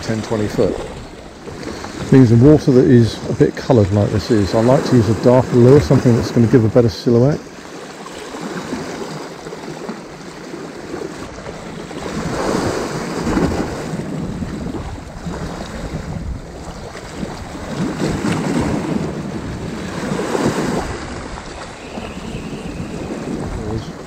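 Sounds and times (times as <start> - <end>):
waves washing against rocks: 0.0 - 24.0
wind rumbling on microphone: 0.0 - 24.0.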